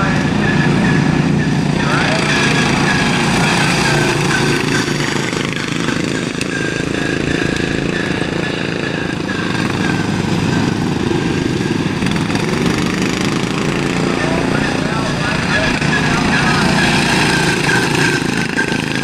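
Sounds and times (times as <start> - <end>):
small mower engines racing: 0.0 - 19.0.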